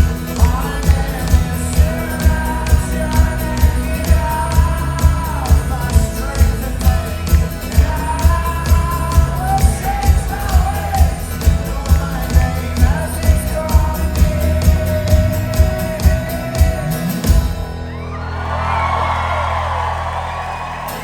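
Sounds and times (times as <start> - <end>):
folk-rock band playing: 0.0 - 21.0.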